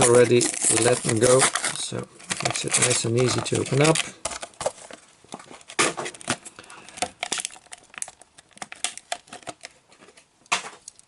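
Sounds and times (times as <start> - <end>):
plastic blister pack crinkling: 0.0 - 11.0.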